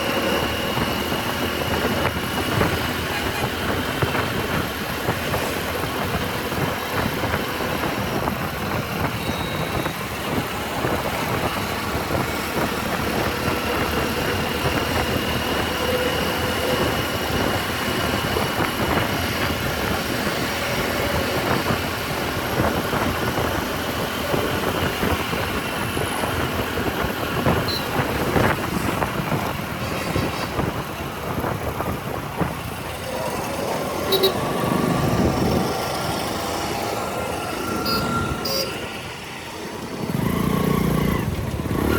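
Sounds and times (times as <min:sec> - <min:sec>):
motorcycle running: 0:00.0 - 0:41.9
wind and road noise: 0:00.0 - 0:41.9.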